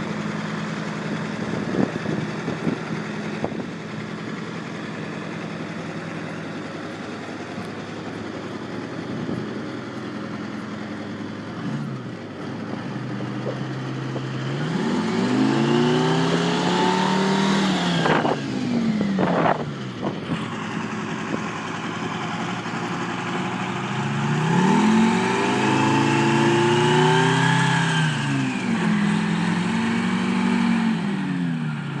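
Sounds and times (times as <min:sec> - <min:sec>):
engine running and revving: 0:00.0 - 0:32.0.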